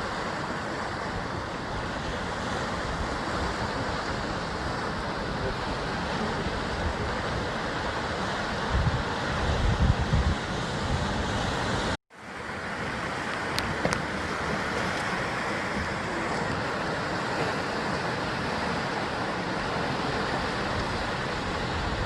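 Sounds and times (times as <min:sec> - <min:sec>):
sea surf against rock cliffs: 0:00.0 - 0:22.0.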